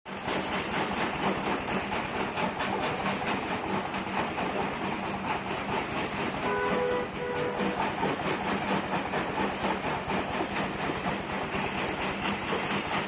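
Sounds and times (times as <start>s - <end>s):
heavy machine rattling clatter: 0.1s - 13.0s.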